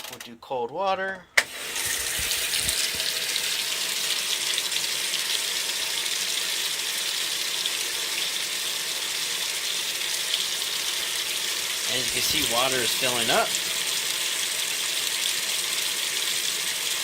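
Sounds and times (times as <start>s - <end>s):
water pouring into washing machine: 1.4s - 17.0s.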